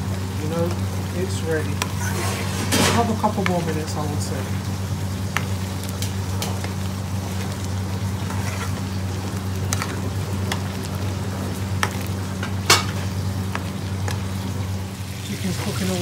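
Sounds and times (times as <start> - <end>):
pot simmering hiss: 0.0 - 16.0
steady low hum: 0.0 - 16.0.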